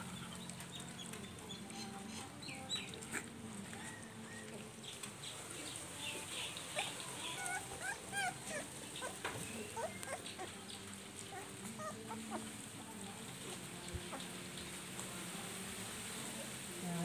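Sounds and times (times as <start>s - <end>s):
puppies chewing and lapping: 0.0s - 15.3s.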